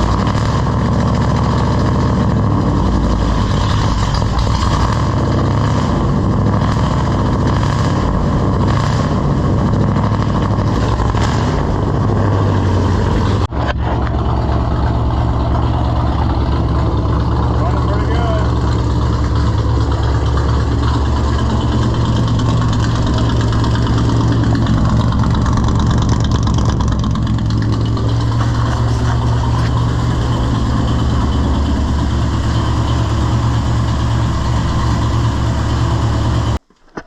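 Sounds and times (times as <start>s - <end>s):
pickup engine idling: 0.0s - 36.6s.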